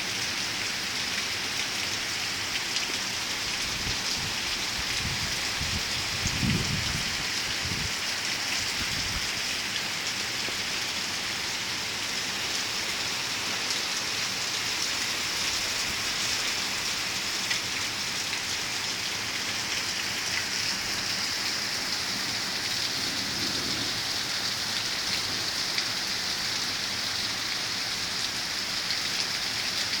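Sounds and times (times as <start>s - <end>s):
hard rain pouring: 0.0s - 30.0s.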